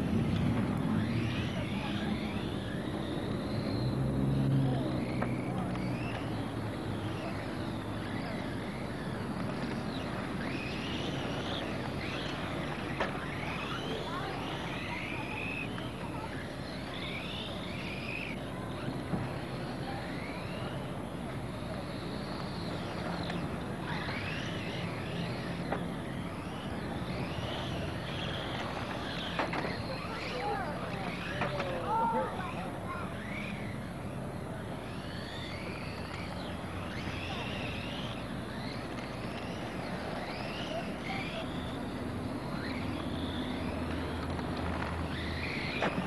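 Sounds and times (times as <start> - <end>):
rc car motors whining: 0.0 - 46.0
steady rushing background noise: 0.0 - 46.0.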